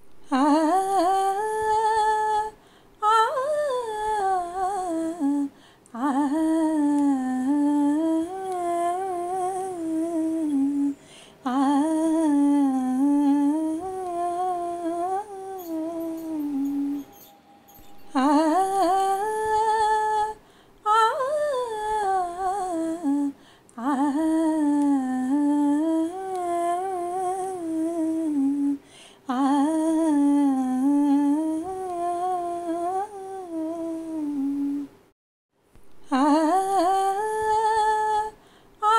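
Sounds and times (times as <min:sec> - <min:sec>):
woman humming a wordless melody: 0:00.2 - 0:35.0.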